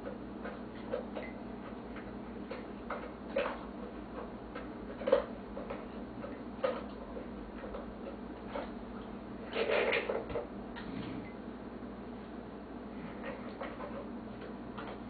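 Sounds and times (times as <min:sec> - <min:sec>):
dog eating from a bowl: 0:00.0 - 0:11.4, 0:12.8 - 0:15.0.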